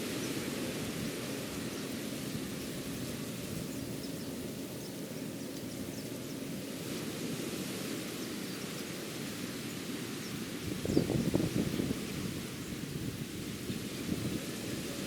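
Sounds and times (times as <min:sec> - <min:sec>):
ocean surf rushing: 0:00.0 - 0:05.1, 0:06.2 - 0:15.0.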